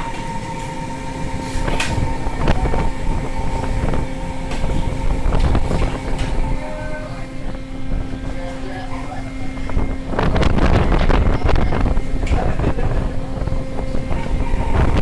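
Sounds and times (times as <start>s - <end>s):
boat machinery humming: 0.0s - 15.0s
wind rumble on microphone: 0.0s - 15.0s.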